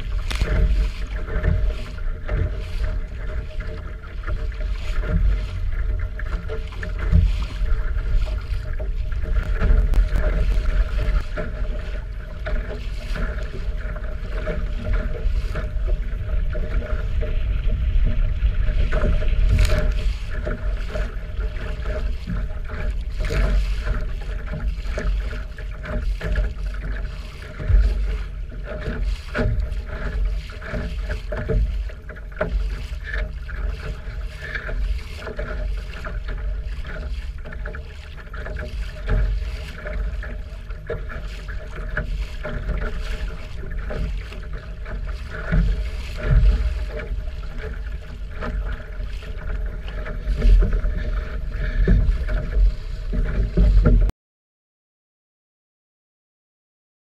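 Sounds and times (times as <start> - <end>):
wind buffeting microphone: 0.0 - 37.8, 38.5 - 54.1
water rushing along hull: 0.0 - 54.1.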